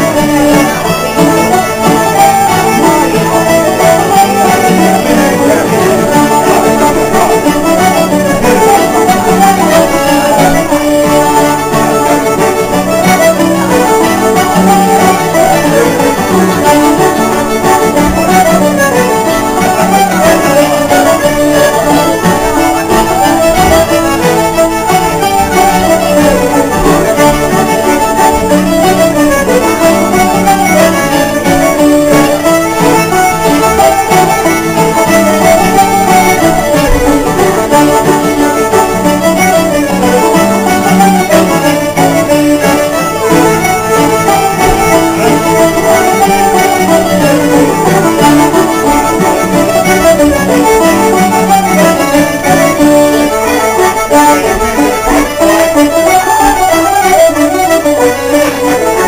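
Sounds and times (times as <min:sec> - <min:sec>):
banjo: 0:00.0 - 0:59.0
button accordion: 0:00.0 - 0:59.0
fiddles playing melody: 0:00.0 - 0:59.0
strummed acoustic guitar: 0:00.0 - 0:59.0.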